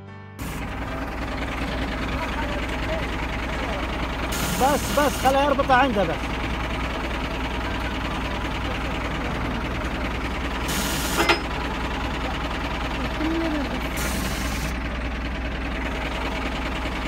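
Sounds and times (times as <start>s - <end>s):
vehicle engine idling: 0.4s - 17.0s.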